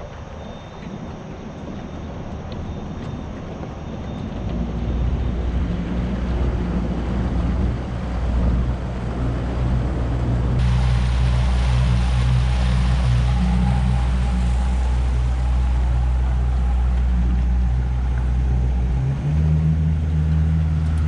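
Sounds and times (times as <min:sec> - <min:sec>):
outboard motor running: 0:00.0 - 0:21.0
water rushing along hull: 0:00.0 - 0:21.0.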